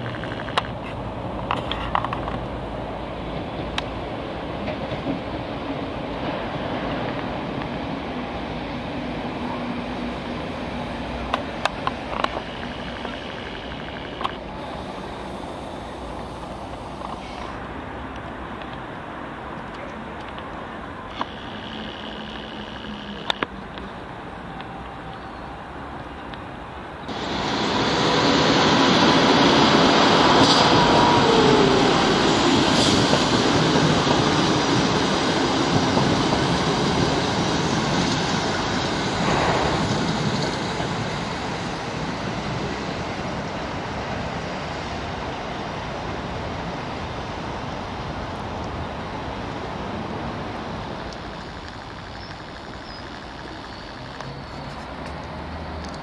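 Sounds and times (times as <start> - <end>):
train rail rumble: 0.0 - 56.0.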